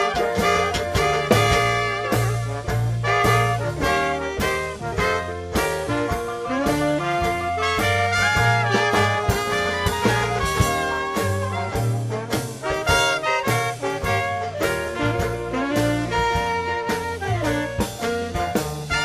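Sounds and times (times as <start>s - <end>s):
dixieland jazz band playing: 0.0s - 19.0s.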